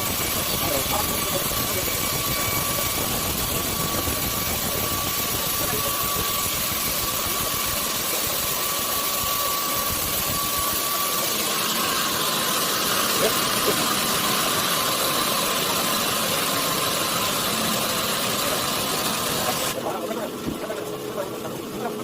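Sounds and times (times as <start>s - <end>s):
faint high whine: 0.0s - 22.0s
sawmill machinery drone: 0.0s - 22.0s.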